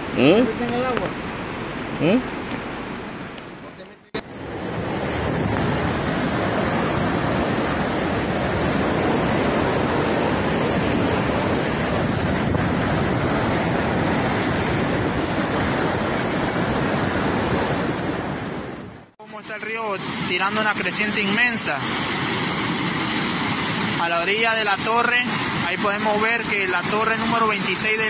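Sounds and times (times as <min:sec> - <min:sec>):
river rushing through rapids: 0:00.0 - 0:18.6, 0:19.3 - 0:28.0.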